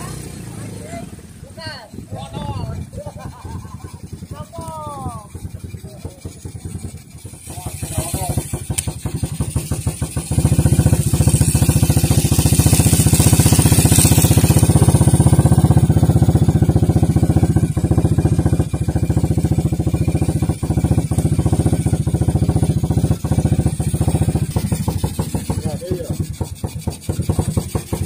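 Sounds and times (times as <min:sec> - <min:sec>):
small boat engine putter: 0:02.8 - 0:28.0.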